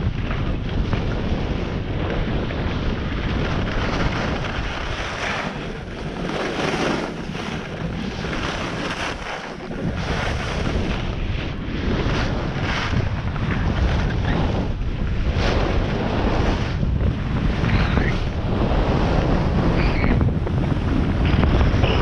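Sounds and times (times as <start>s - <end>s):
skis scraping over packed snow: 0.0s - 22.0s
wind buffeting microphone: 0.0s - 22.0s.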